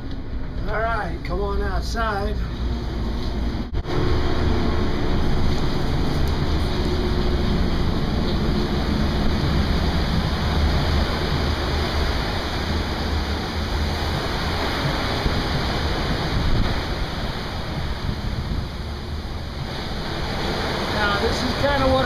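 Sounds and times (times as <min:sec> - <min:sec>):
steady low rumble: 0:00.0 - 0:22.0
water rushing along hull: 0:00.0 - 0:22.0.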